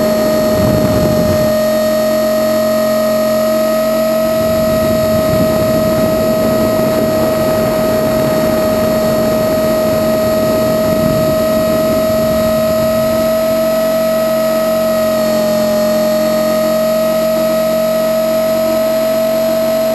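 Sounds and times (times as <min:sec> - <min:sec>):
helicopter motor high whine: 0:00.0 - 0:19.9
rotor rushing air noise: 0:00.0 - 0:19.9.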